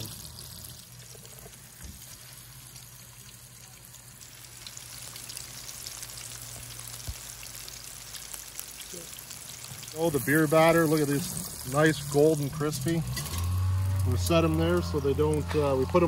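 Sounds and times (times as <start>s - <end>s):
fish deep-frying in oil: 0.0s - 16.0s.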